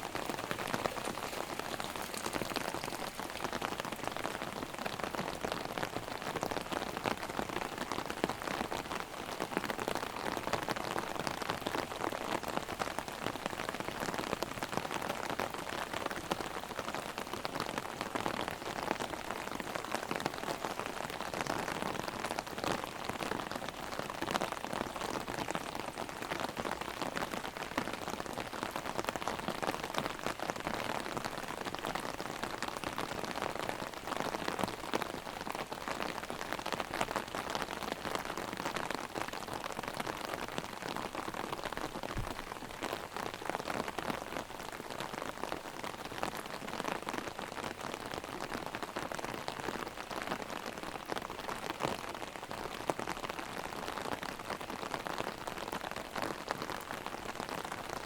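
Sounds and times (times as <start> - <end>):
heavy rain on an umbrella: 0.0 - 58.0.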